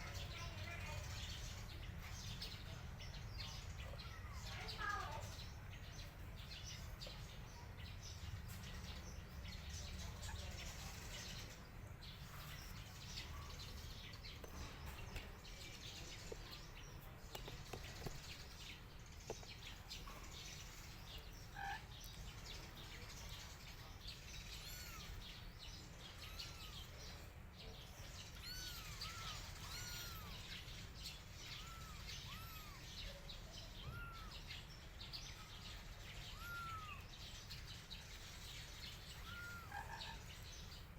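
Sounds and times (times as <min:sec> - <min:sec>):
chirping calls: 0:03.2 - 0:40.9.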